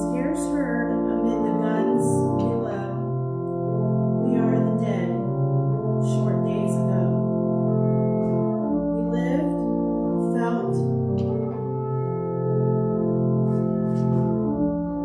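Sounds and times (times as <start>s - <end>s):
slow church prelude chords: 0.0s - 15.0s.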